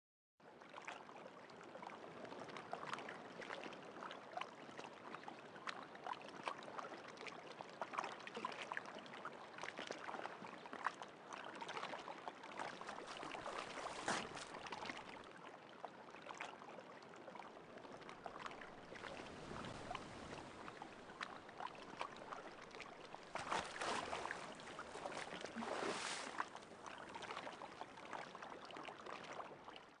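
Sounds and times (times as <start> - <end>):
water splashing and trickling: 0.6 - 30.0.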